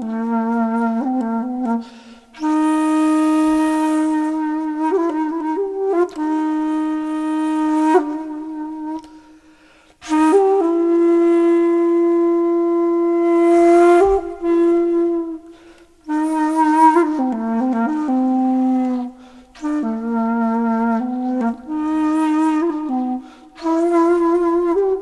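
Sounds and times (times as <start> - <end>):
solo flute music: 0.0 - 25.0.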